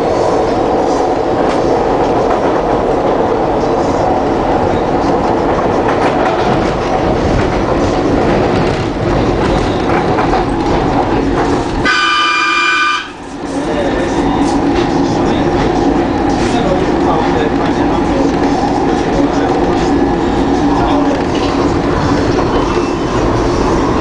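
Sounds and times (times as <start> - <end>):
subway train rumble: 0.0 - 24.0.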